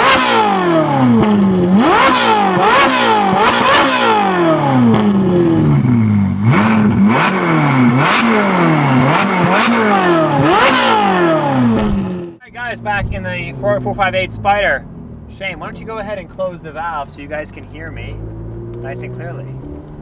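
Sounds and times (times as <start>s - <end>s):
sports car engine revving: 0.0s - 20.0s.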